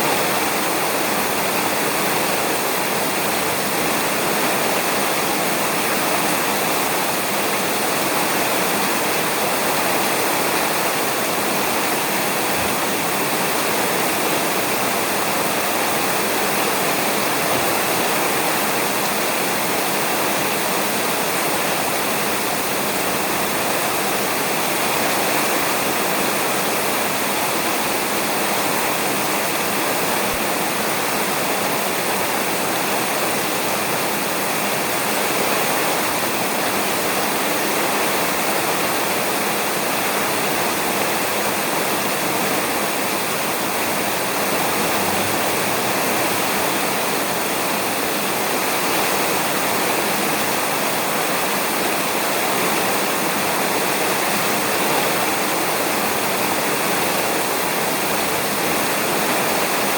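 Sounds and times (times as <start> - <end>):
rain falling on a roof: 0.0 - 59.9.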